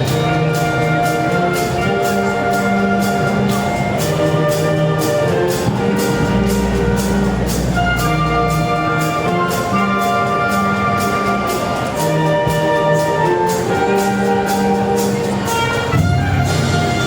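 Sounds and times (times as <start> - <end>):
brass band horn chords: 0.0 - 17.0
percussion beat: 0.0 - 17.0.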